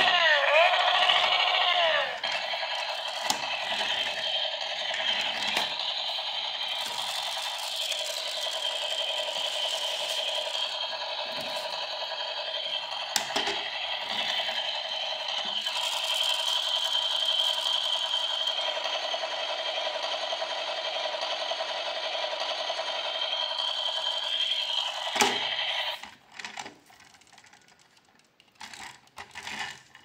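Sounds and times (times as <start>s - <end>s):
toy car wheels whirring and rattling: 0.0s - 30.0s.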